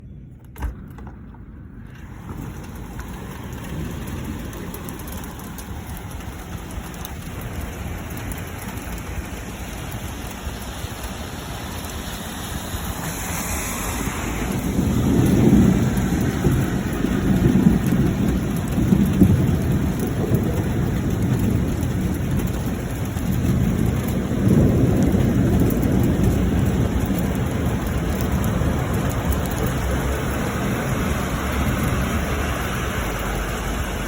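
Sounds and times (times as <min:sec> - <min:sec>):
low rumble of thunder: 0:00.0 - 0:34.0
steady rain: 0:00.8 - 0:34.0.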